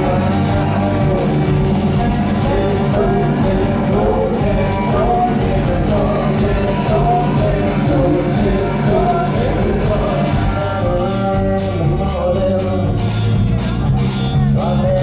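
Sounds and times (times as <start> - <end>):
man singing into microphone: 0.0 - 13.4, 14.3 - 15.0
country band playing live: 0.0 - 15.0.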